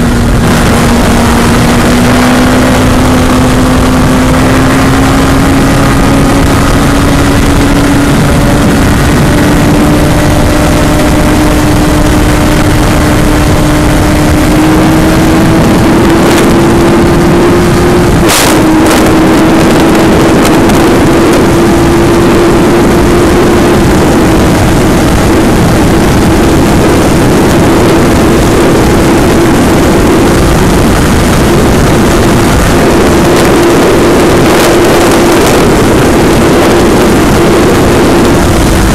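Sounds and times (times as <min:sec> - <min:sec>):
loud wind rush: 0:00.0 - 0:38.9
motorcycle engine at high speed: 0:00.0 - 0:38.9.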